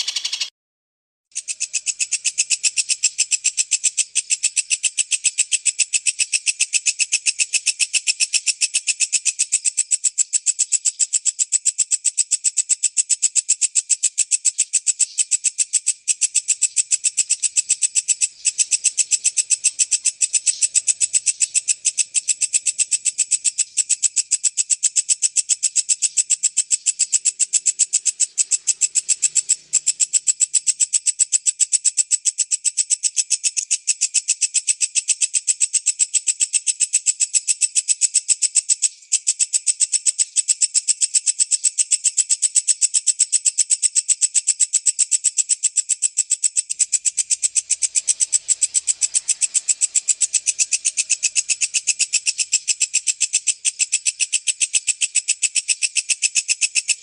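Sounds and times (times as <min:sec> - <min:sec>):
high-pitched pulsed bird chirring: 0:00.0 - 0:00.5, 0:01.3 - 0:35.5, 0:36.4 - 0:57.0.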